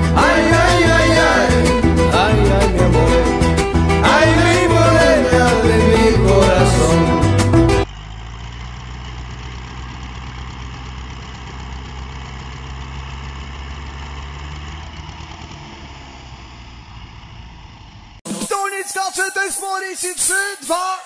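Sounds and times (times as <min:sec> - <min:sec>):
tractor diesel engines idling: 0:00.0 - 0:18.6.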